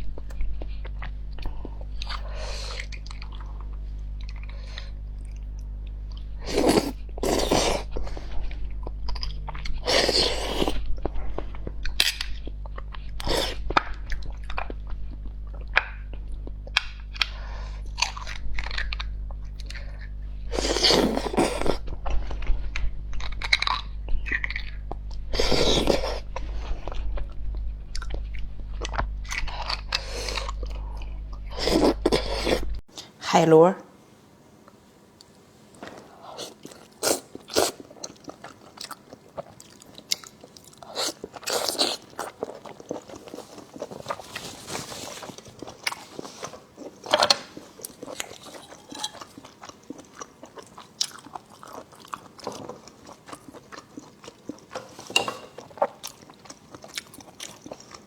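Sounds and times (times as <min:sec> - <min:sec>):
person chewing and crunching: 0:00.0 - 0:32.8, 0:35.3 - 0:58.0
steady low hum: 0:00.0 - 0:33.3, 0:33.9 - 0:58.0.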